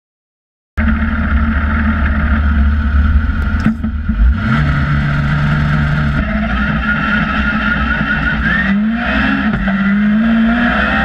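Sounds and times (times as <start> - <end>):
car pulling away: 0.8 - 11.0
sports car engine idling and revving: 0.8 - 11.0.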